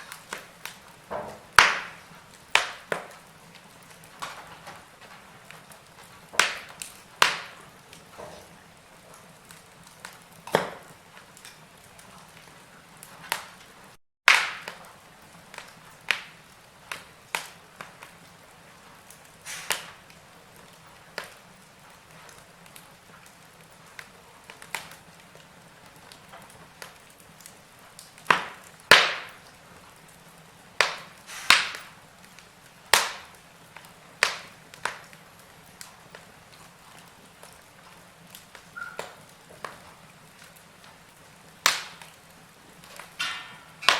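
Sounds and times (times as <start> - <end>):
faint steady hiss: 0.0 - 43.9
wood fire crackling and popping: 0.0 - 43.9.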